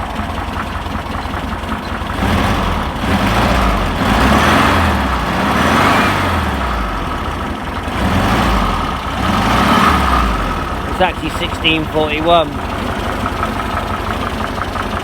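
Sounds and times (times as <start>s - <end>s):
air-cooled engine running: 0.0s - 15.0s.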